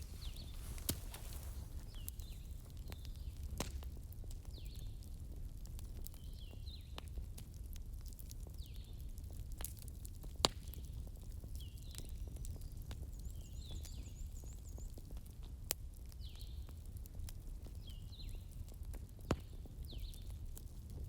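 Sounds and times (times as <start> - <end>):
bonfire flames rumbling: 0.0 - 21.0
fire crackling pops: 0.0 - 21.0.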